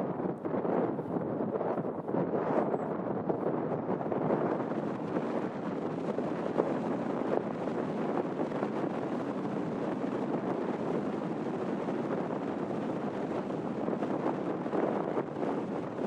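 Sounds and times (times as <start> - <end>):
strong gusting wind on microphone: 0.0 - 16.0.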